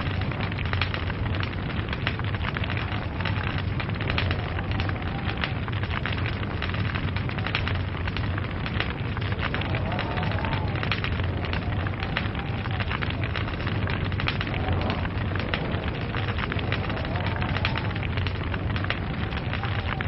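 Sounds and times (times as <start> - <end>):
log fire crackling: 0.0 - 20.0
low rumble of flames: 0.0 - 20.0.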